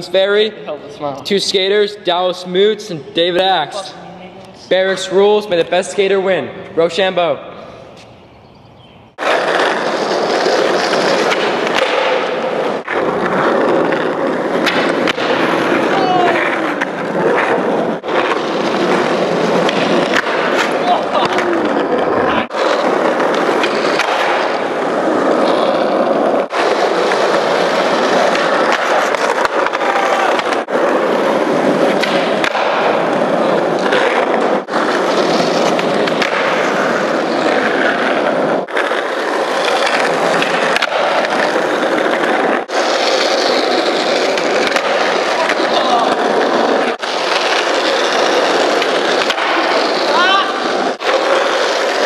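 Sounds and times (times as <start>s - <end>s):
skateboard wheels rolling on concrete: 0.0s - 52.0s.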